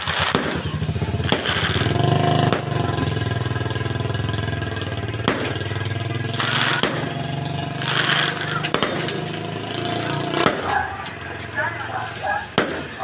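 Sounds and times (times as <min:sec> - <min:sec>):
motor engine idling: 0:00.0 - 0:13.0
sharp cracks: 0:00.0 - 0:13.0.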